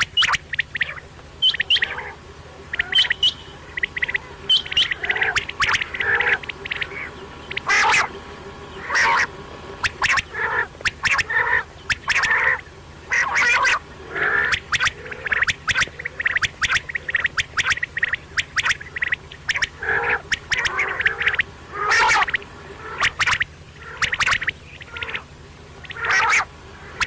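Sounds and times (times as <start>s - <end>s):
quail calling: 0.0s - 27.0s.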